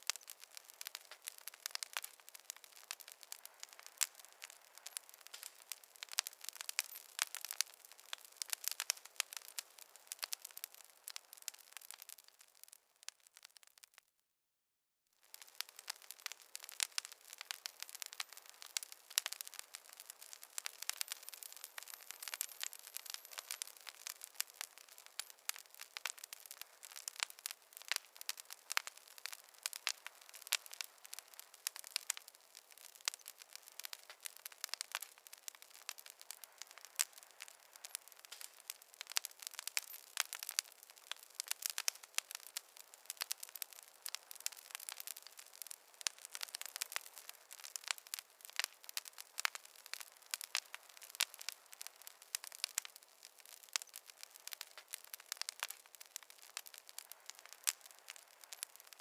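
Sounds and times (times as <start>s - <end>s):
wood fire crackling: 0.0s - 14.0s, 15.2s - 59.0s.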